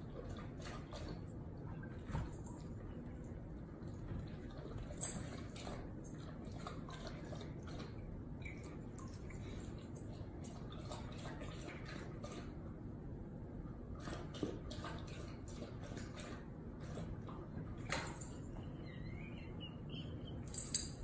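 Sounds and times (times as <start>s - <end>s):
dog lapping water: 0.0s - 20.2s.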